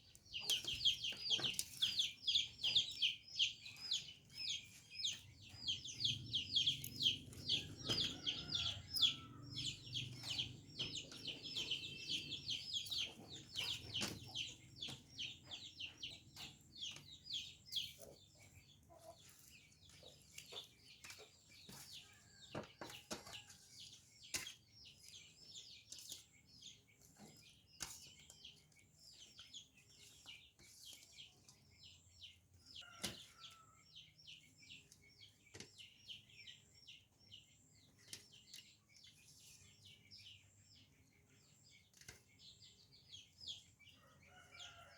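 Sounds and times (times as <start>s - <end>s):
chicks cheeping: 0.0s - 44.9s.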